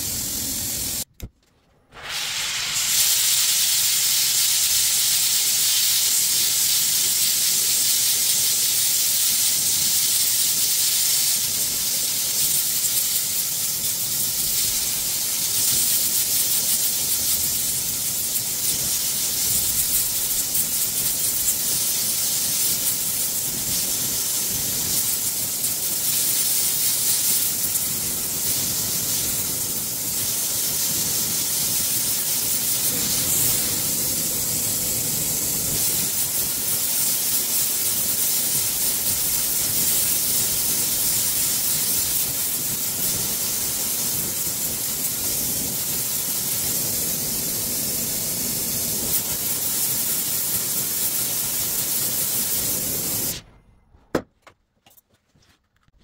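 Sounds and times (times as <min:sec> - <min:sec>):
gas torch hissing: 0:00.0 - 0:01.1, 0:01.9 - 0:53.7.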